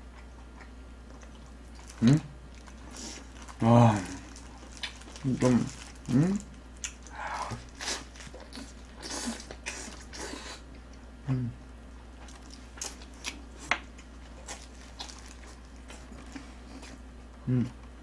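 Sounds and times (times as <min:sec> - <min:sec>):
biting and chewing food: 0:00.0 - 0:11.0, 0:12.1 - 0:18.0.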